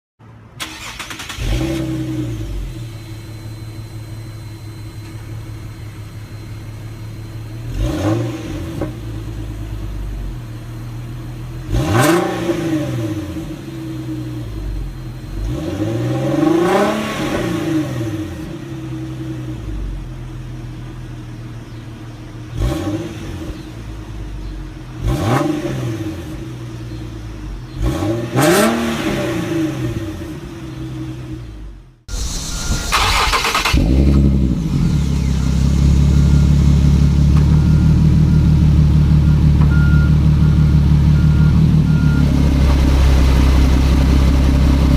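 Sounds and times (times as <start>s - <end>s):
car engine idling and revving: 0.2s - 44.9s.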